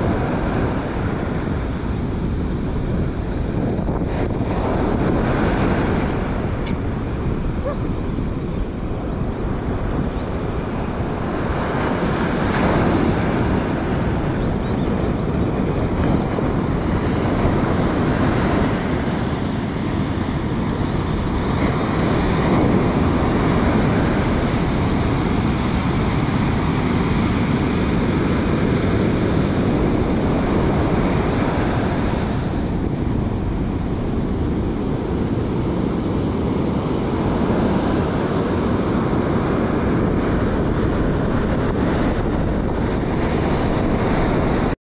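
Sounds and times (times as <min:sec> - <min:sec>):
surf breaking on shore: 0:00.0 - 0:44.8
wind buffeting microphone: 0:00.0 - 0:44.8.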